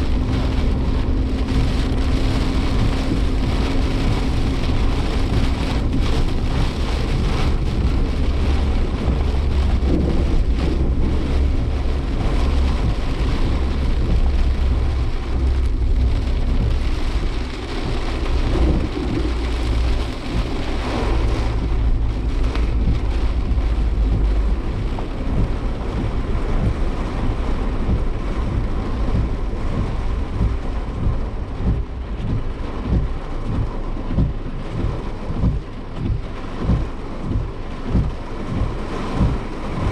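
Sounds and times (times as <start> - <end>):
heavy rain drumming on car: 0.0 - 39.9
raindrops tapping car body: 0.0 - 39.9
road and wind rumble: 0.0 - 39.9.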